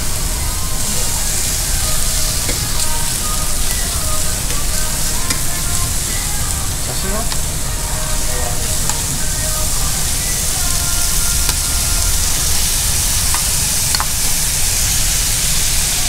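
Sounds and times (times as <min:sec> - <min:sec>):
food sizzling on griddle: 0:00.0 - 0:16.0.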